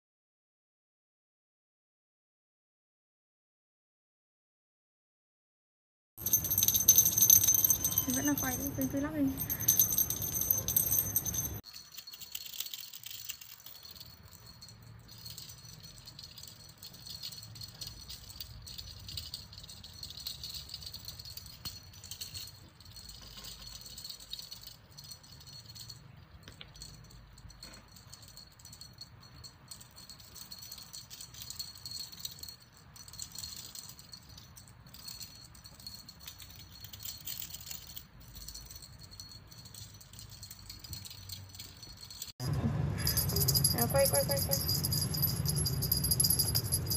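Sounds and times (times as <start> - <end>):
cat toy bell jingling: 6.2 - 46.9.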